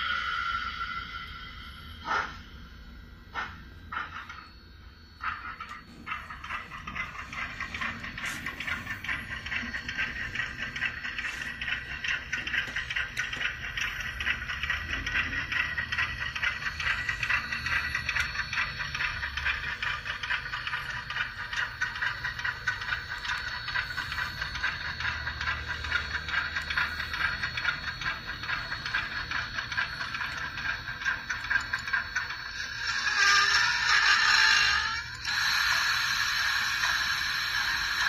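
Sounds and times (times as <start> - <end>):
model train wheels clicking: 0.0 - 2.4, 3.3 - 38.0.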